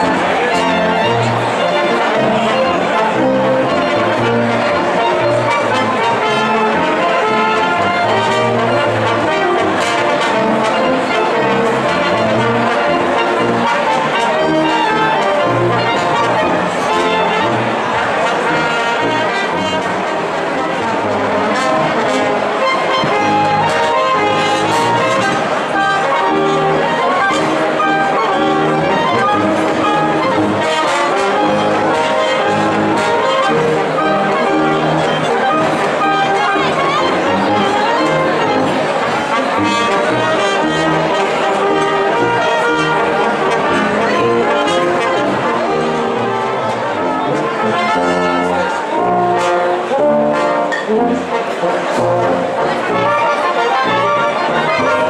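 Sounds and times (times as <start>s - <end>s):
brass ensemble playing: 0.0s - 55.0s.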